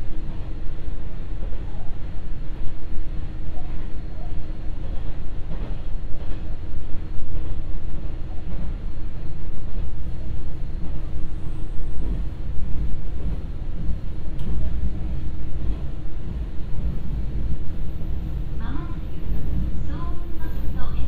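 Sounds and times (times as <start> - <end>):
railcar rumbling: 0.0 - 21.0.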